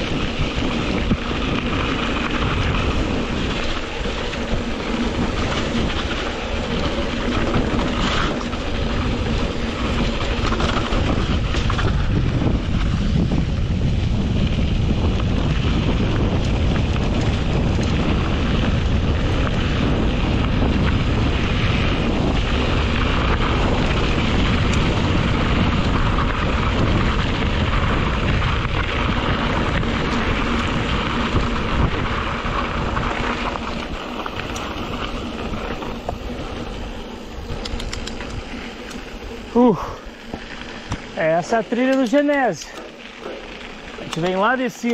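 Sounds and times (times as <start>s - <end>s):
bike tyres rumbling over dirt: 0.0s - 44.9s
wind buffeting microphone: 0.0s - 44.9s.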